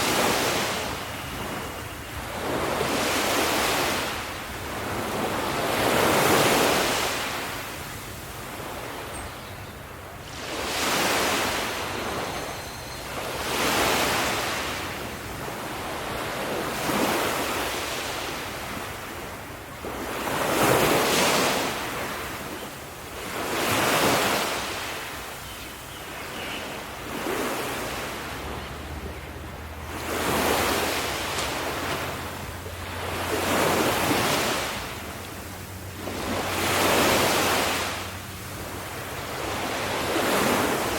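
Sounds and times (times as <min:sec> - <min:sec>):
ocean waves crashing on shore: 0:00.0 - 0:40.9.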